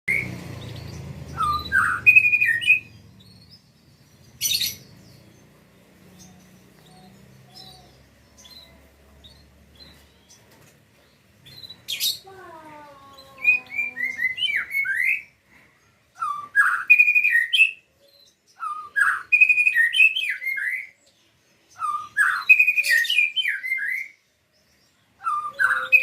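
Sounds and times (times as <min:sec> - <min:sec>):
small bird chirping: 0:00.1 - 0:26.0.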